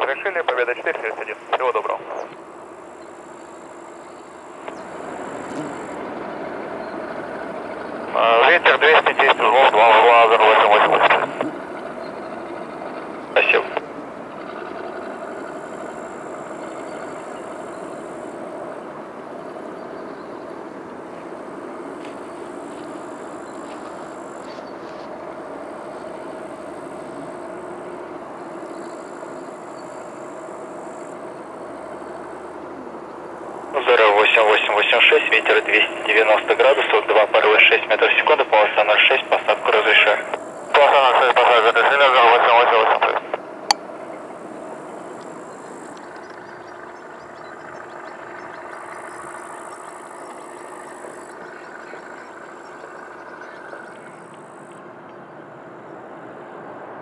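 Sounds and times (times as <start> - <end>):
jet engine hum: 0.0 - 57.0.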